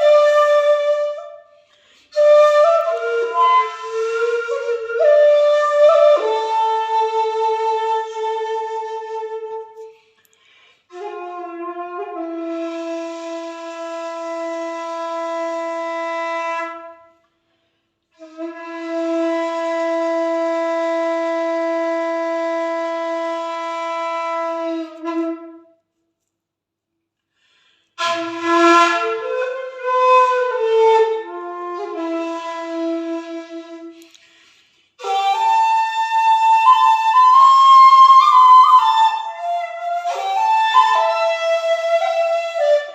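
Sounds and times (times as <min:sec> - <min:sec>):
bamboo flute played solo: 0:00.0 - 0:09.9, 0:10.9 - 0:17.1, 0:18.2 - 0:25.7, 0:28.0 - 0:34.1, 0:35.0 - 0:42.9.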